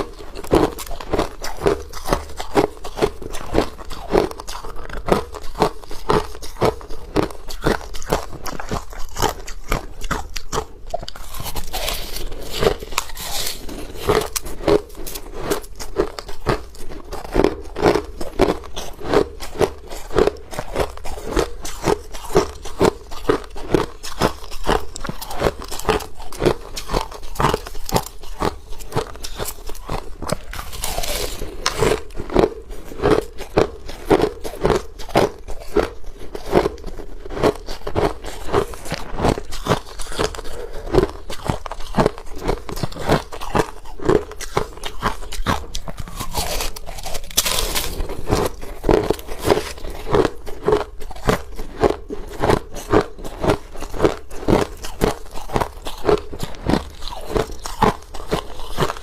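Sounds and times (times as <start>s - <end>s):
person chewing hard ice: 0.0s - 59.0s.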